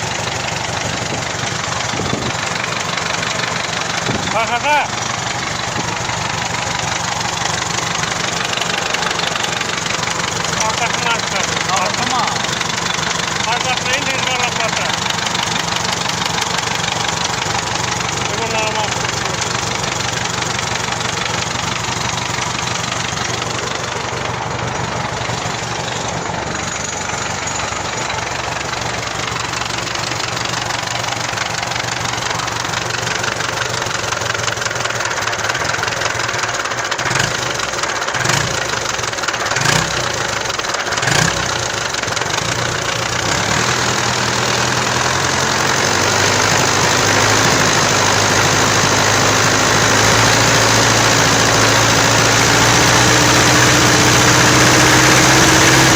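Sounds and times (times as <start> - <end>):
diesel tractor engine idling: 0.0 - 55.9.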